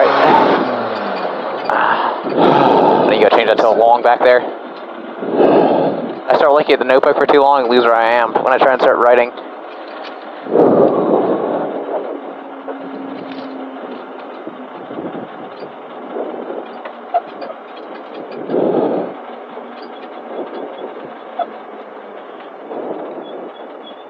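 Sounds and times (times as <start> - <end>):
road and drivetrain rumble: 0.0 - 24.0.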